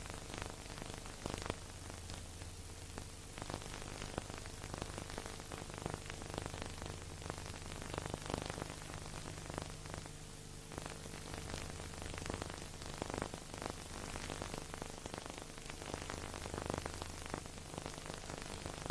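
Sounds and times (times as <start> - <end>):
record surface hiss: 0.0 - 18.9.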